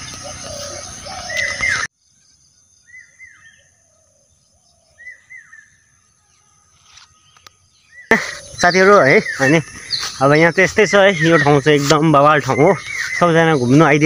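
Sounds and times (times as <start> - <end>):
bird chirping: 0.0 - 14.0
faint open-air background: 0.0 - 14.0.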